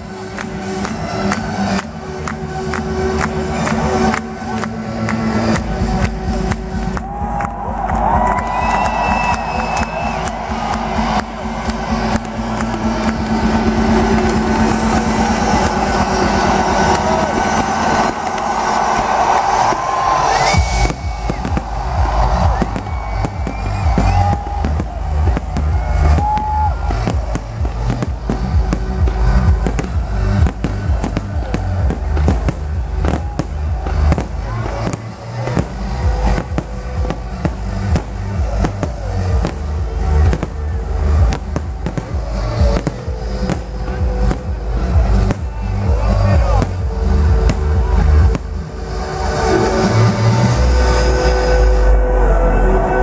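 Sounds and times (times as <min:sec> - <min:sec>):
fireworks bangs and crackles: 0:00.0 - 0:50.4
electronic dance music: 0:00.0 - 0:53.0.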